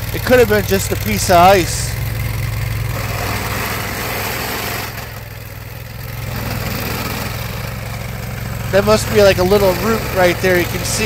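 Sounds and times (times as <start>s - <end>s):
low engine hum: 0.0s - 11.0s
vibratory plow running: 0.0s - 11.0s.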